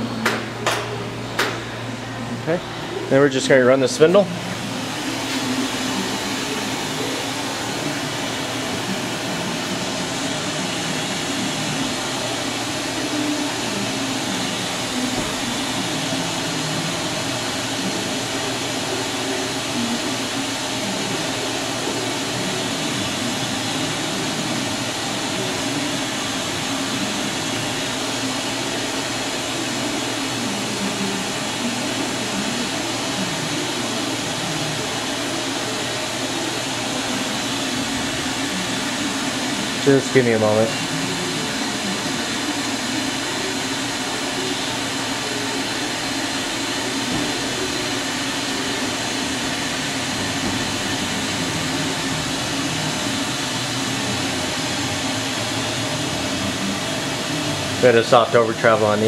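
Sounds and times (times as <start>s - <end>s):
machining center whirring and hissing: 0.0s - 59.0s.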